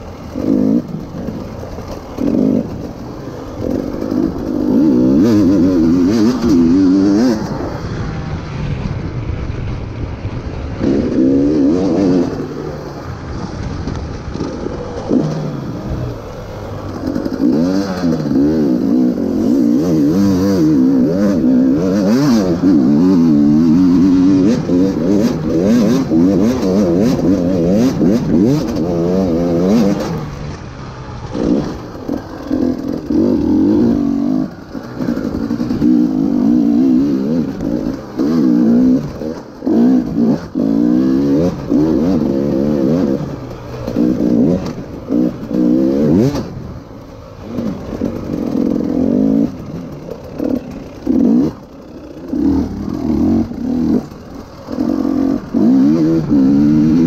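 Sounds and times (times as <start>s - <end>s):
two-stroke engine revving: 0.0s - 9.2s, 10.3s - 57.0s.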